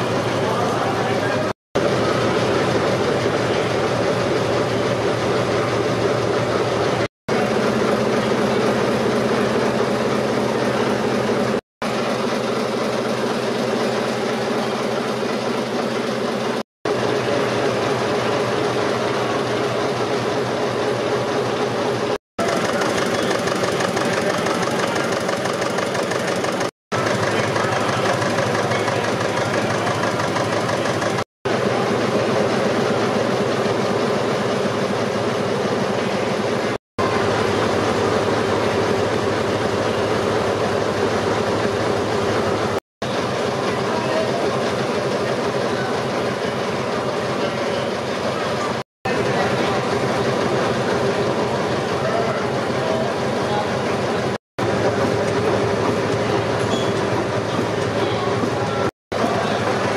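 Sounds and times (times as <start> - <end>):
stationary engines clattering: 0.0 - 59.9.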